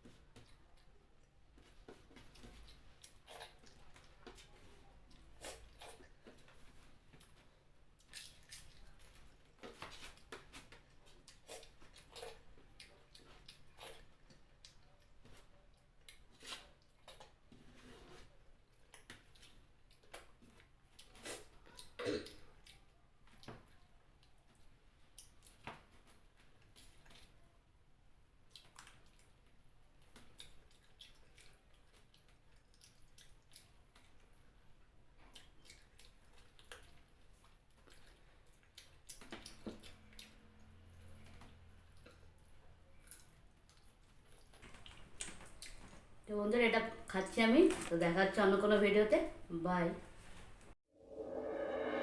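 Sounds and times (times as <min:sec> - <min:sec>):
person chewing food: 0:00.0 - 0:27.4, 0:28.4 - 0:46.2.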